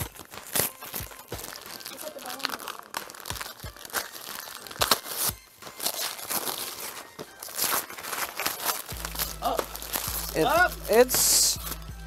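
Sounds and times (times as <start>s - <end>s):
wrapping paper crinkling and tearing: 0.0s - 11.9s.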